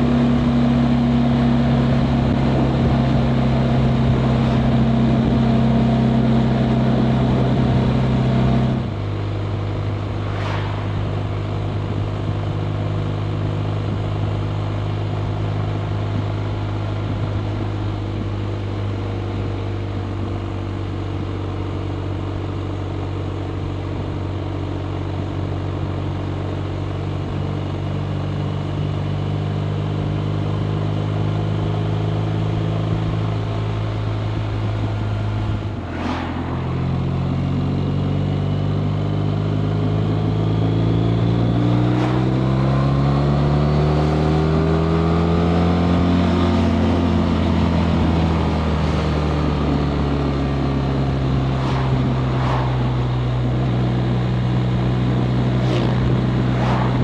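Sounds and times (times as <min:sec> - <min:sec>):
motorcycle engine accelerating: 0:00.0 - 0:24.3, 0:25.9 - 0:57.0
wind and road rush: 0:00.0 - 0:57.0.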